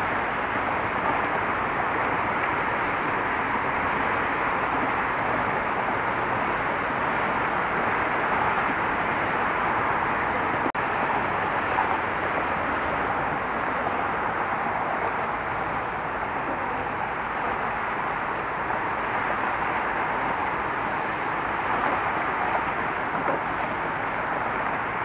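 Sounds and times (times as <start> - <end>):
road traffic hiss: 0.0 - 25.0.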